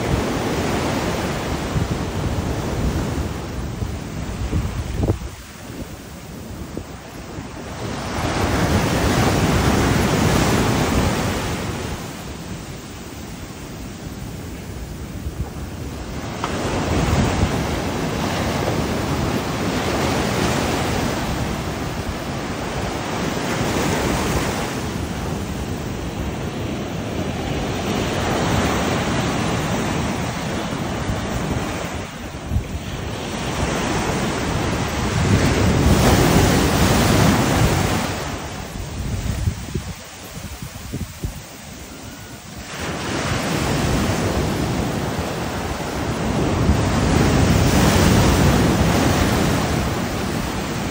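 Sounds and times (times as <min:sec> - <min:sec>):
surf breaking on a beach: 0:00.0 - 0:50.9
wind buffeting microphone: 0:00.0 - 0:50.9.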